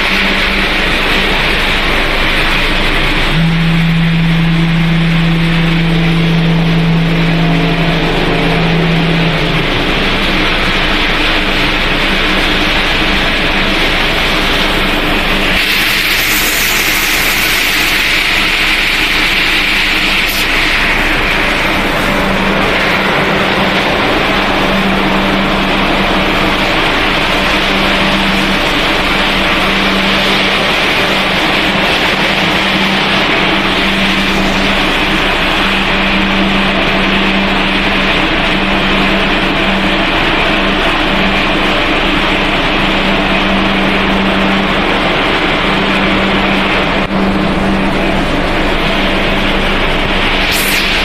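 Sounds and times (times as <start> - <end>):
low machine hum: 0.0 - 51.0
production line machinery running: 0.0 - 51.0.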